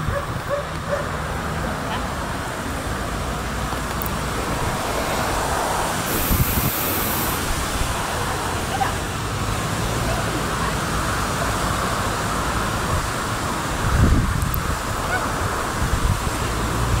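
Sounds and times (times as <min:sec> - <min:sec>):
wind noise on microphone: 0:00.0 - 0:01.5, 0:02.3 - 0:10.3, 0:11.0 - 0:17.0.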